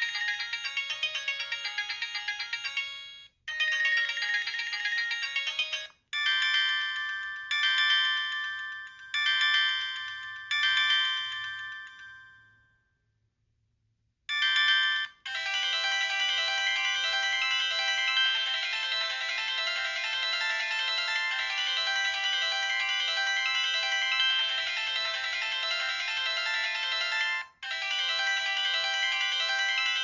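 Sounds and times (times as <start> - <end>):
chime-like ringtone phrases: 0.0 - 12.6, 14.3 - 30.0
phone ringtone melodies: 0.0 - 12.8, 14.3 - 30.0.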